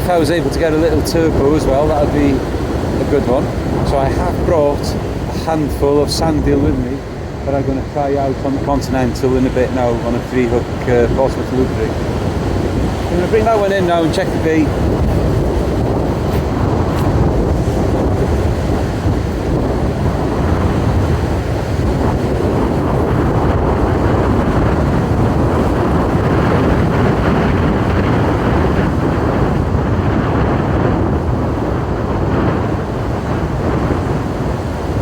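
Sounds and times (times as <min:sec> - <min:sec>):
waves breaking on shore: 0:00.0 - 0:35.0
wind buffeting microphone: 0:00.0 - 0:35.0.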